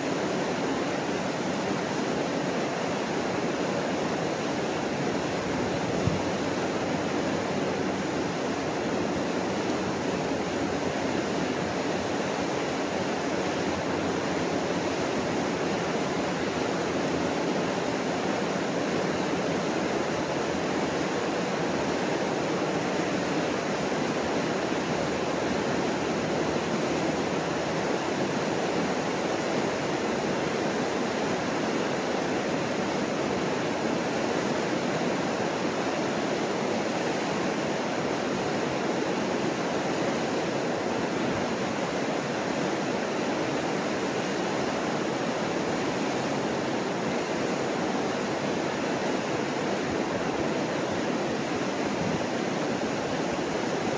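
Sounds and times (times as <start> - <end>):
whitewater rushing over falls: 0.0 - 53.9.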